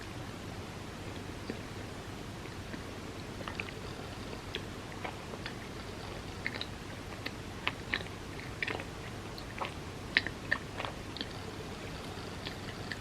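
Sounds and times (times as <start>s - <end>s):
chewing bread: 2.5s - 13.0s.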